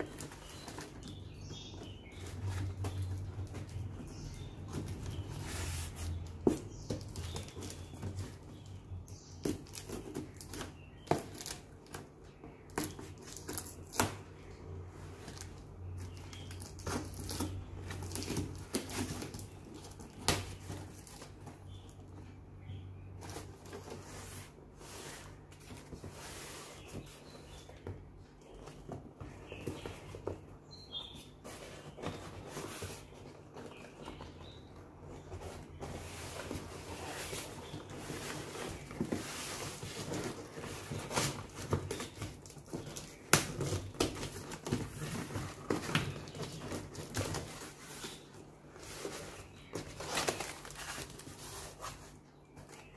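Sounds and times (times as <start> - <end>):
cardboard box rustling and crackling: 0.0 - 14.0, 15.1 - 52.9.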